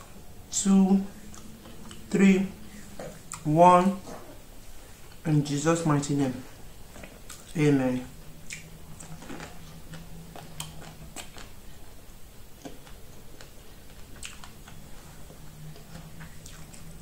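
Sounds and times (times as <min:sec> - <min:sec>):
chewing with crunches: 0:00.0 - 0:05.3, 0:06.0 - 0:17.0.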